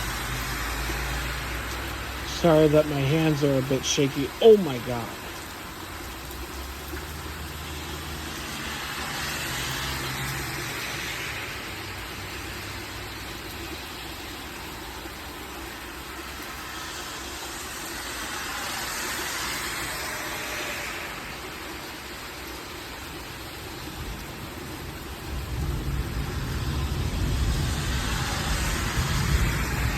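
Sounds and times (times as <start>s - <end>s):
heavy rain: 0.0s - 29.9s.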